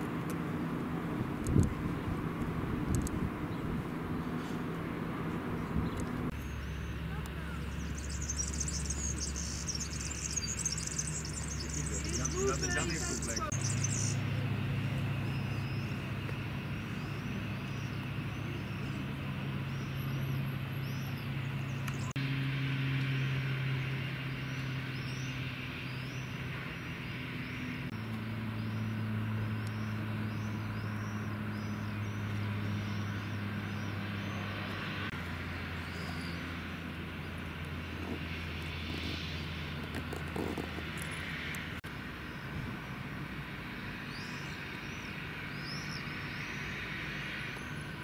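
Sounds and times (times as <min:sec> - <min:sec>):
low engine-like drone: 0:00.0 - 0:48.0.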